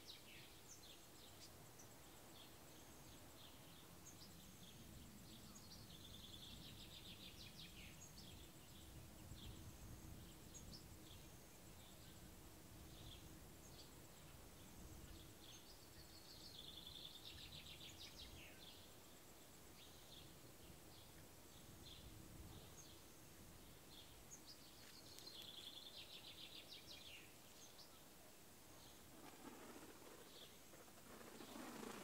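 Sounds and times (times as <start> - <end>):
faint birdsong with trills: 0.0 - 32.0.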